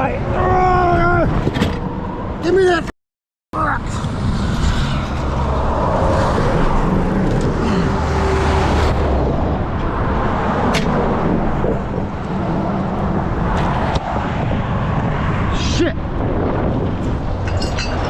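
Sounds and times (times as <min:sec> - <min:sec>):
road traffic passing: 0:00.0 - 0:02.9, 0:03.6 - 0:18.0.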